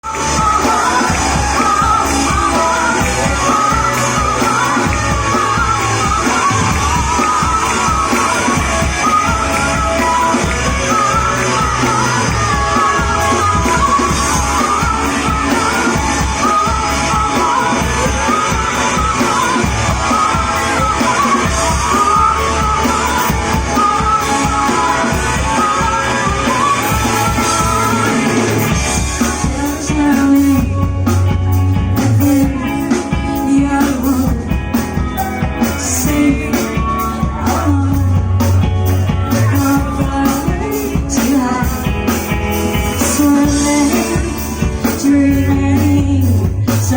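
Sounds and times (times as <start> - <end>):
live rock band playing: 0.0 - 46.9
person singing: 0.0 - 46.9.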